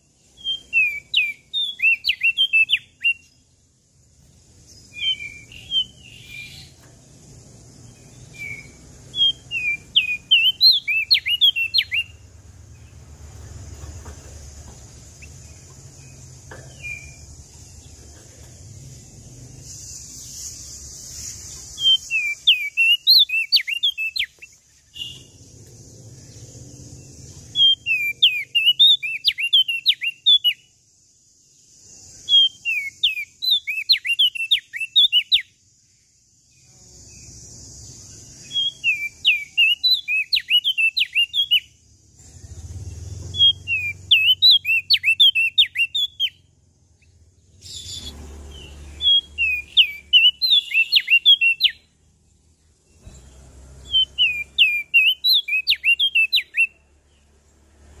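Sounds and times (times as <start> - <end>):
songbird chirping song: 0.0 - 58.0.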